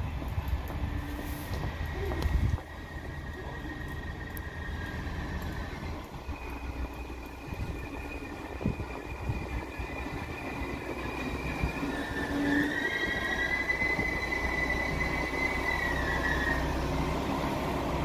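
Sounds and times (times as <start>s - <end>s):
diesel railcar running: 0.0s - 18.0s
high-pitched wheel squeal: 0.9s - 18.0s.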